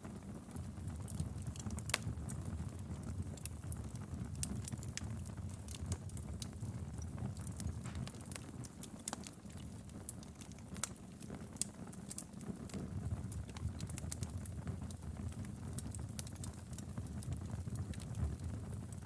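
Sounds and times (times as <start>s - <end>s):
low rumble of flames: 0.0s - 19.0s
wood fire crackling: 0.0s - 19.0s
fire pops and snaps: 0.1s - 19.0s.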